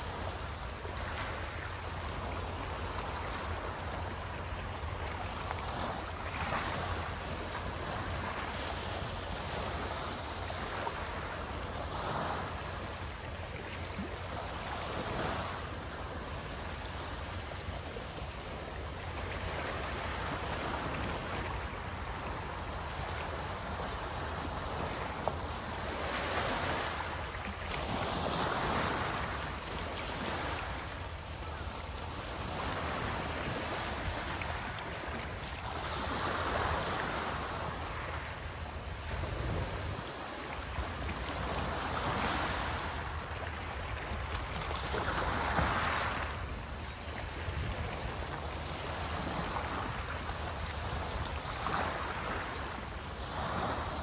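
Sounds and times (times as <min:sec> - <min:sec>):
small waves washing ashore: 0:00.0 - 0:54.0
wind rumble on microphone: 0:00.0 - 0:54.0.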